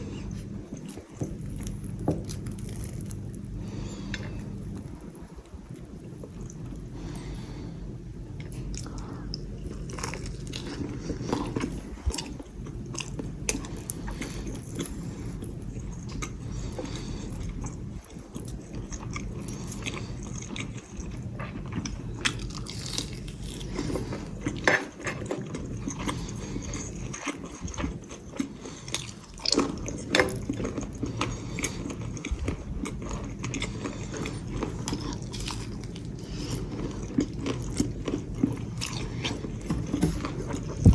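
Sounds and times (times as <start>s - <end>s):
person chewing crunchy food: 0.0s - 40.9s
steady low hum: 0.0s - 40.9s.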